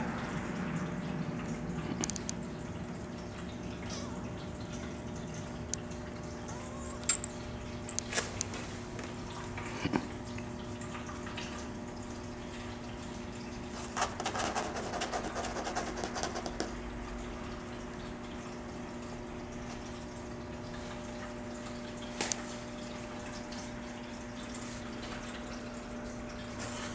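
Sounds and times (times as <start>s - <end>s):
low room hum: 0.0s - 26.9s.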